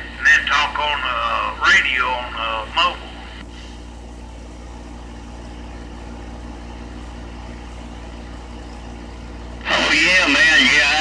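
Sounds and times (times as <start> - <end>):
steady low hum with tones: 0.0 - 11.0.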